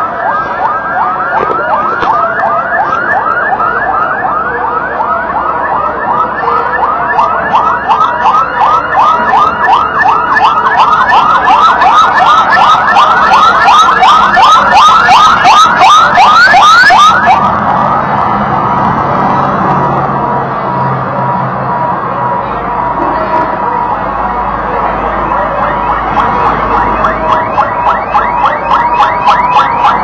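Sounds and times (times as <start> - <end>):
fire engine siren yelping: 0.0 - 30.0
steady siren tone: 0.0 - 30.0
truck engine: 0.0 - 30.0.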